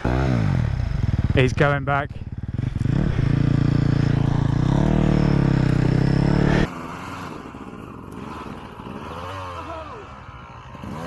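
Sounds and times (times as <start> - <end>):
dirt bike engine running: 0.0 - 11.0
distant dirt bike engine revving: 0.0 - 11.0.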